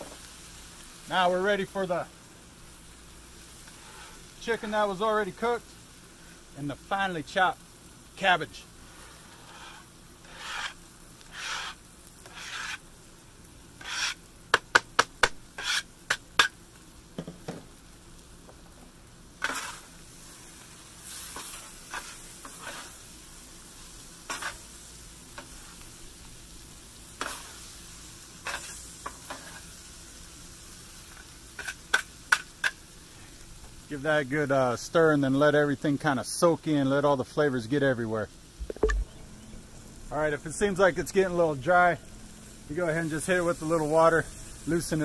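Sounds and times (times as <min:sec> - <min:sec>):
food sizzling on griddle: 0:00.0 - 0:45.0.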